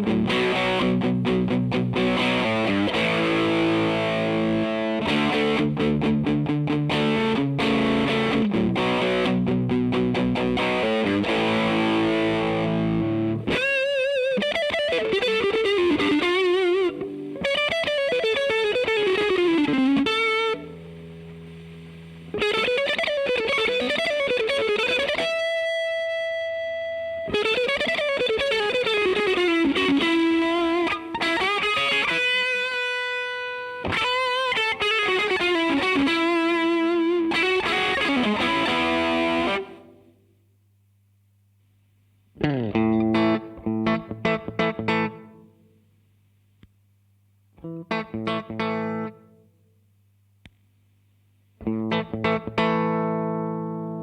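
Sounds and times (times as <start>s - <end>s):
distorted electric guitar lead: 0.0s - 40.2s, 42.3s - 45.6s, 47.5s - 49.4s, 51.6s - 54.0s.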